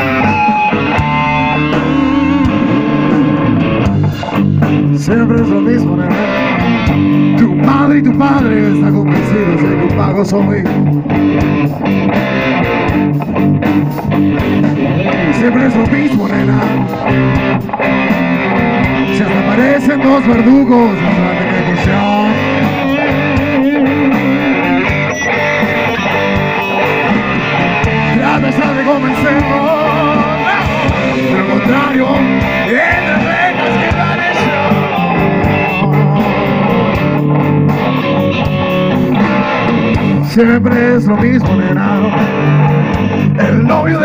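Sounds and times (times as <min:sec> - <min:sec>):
bass: 0:00.0 - 0:44.0
drum kit: 0:00.0 - 0:44.0
electric guitar bent notes: 0:00.0 - 0:44.0.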